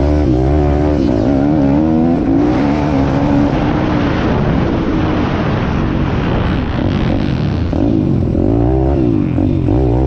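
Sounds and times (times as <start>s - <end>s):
wind rushing over microphone: 0.0s - 9.7s
motorcycle engine under throttle: 0.0s - 10.0s.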